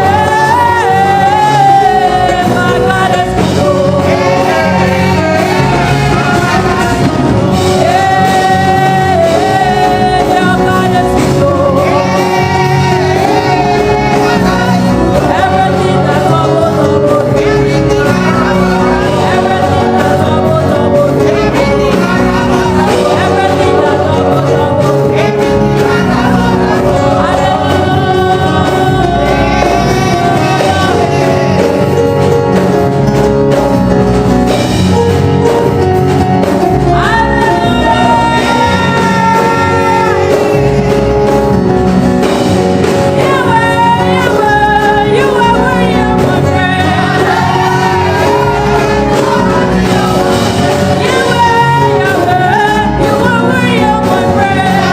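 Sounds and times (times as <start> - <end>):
voices singing: 0.0 - 32.8, 36.8 - 41.7, 42.9 - 54.9
band playing: 0.0 - 54.9.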